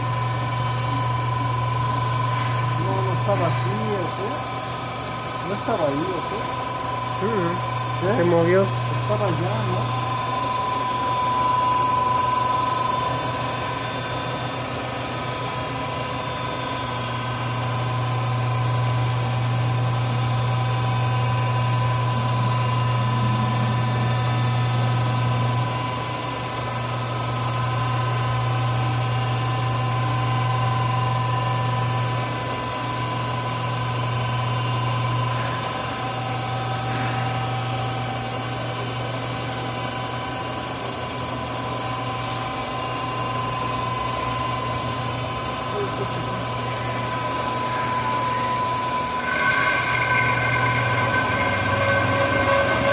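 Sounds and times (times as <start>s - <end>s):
high whine: 0.0s - 52.9s
milling machine motor hum: 0.0s - 52.9s.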